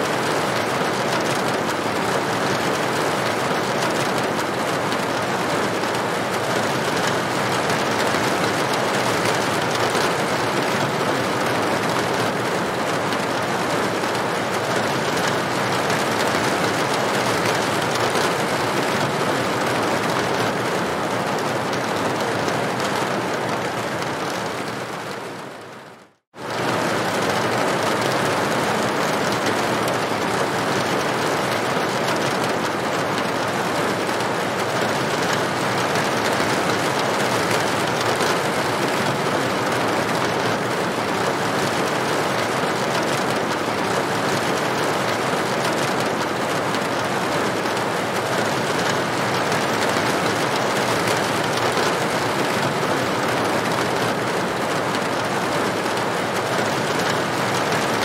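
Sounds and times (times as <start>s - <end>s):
rain on a tin roof: 0.0s - 58.0s.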